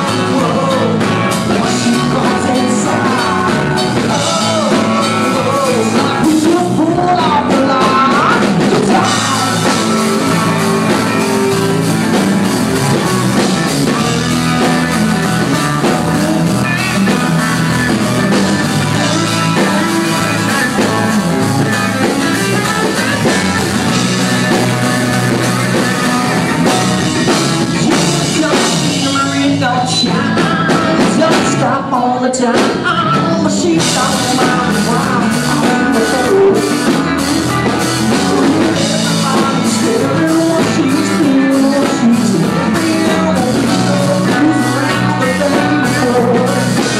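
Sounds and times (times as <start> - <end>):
live rock band playing: 0.0 - 46.9
man singing lead vocal: 0.0 - 46.9.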